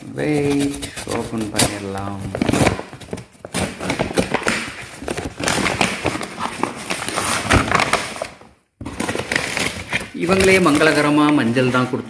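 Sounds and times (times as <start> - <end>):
cardboard and packing rustling: 0.1 - 12.0.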